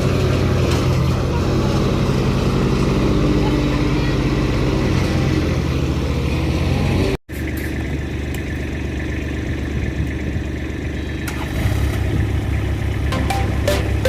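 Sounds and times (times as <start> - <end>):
backhoe engine idling: 0.0 - 6.3, 7.3 - 14.0.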